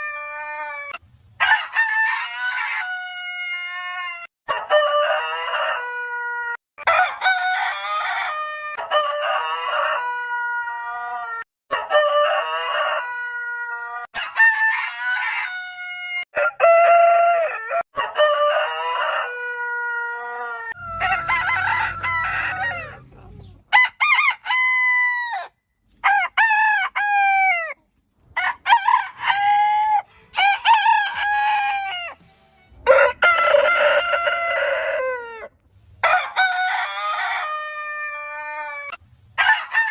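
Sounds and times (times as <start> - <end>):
roosters crowing: 0.0 - 39.9.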